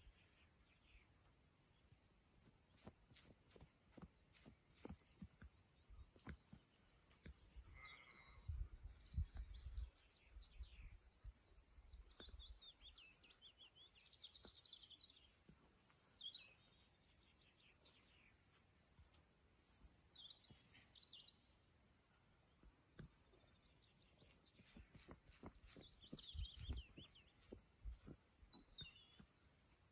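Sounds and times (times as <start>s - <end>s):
faint bird chirping: 0.0s - 18.6s, 19.6s - 29.9s.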